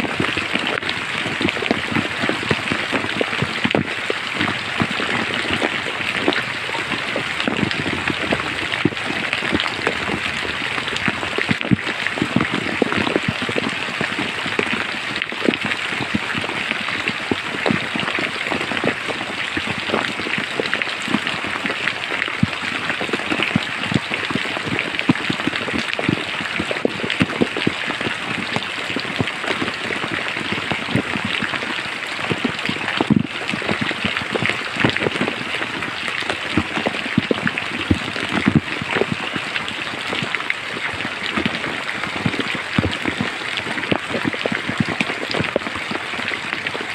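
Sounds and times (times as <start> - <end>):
rain falling through forest: 0.0 - 46.9
raindrops striking close by: 0.0 - 46.9.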